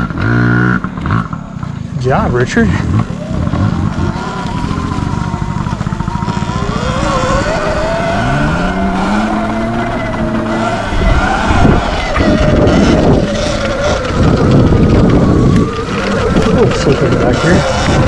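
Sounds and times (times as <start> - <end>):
low rumble: 0.0 - 18.0
electric motor whining: 3.0 - 18.0.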